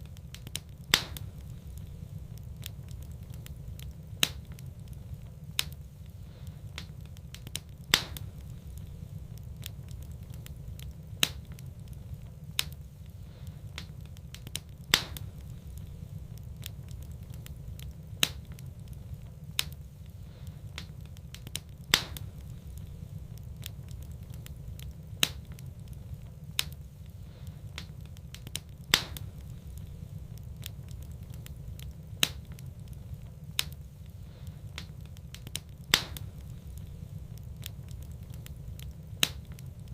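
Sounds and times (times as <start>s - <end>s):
steady low rumble: 0.0s - 39.9s
wood fire crackling and popping: 0.0s - 39.9s.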